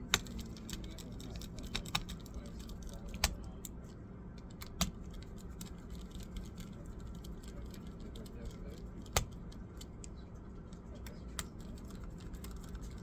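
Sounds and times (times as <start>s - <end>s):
laptop keys clicking: 0.0s - 3.8s, 4.4s - 13.0s
faint low hum: 0.0s - 13.0s.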